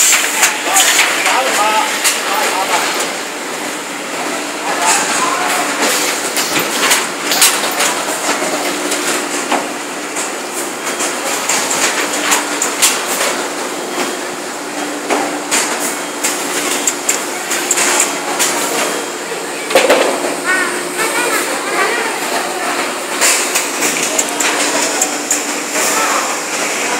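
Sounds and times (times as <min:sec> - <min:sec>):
machine hum: 0:00.0 - 0:26.9
printing machinery clacking: 0:00.0 - 0:26.9.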